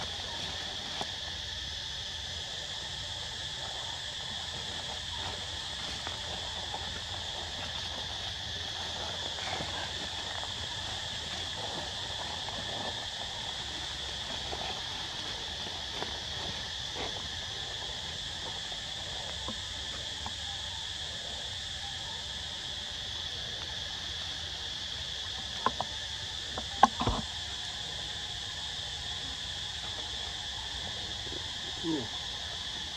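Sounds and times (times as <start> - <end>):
insects buzzing: 0.0 - 32.9.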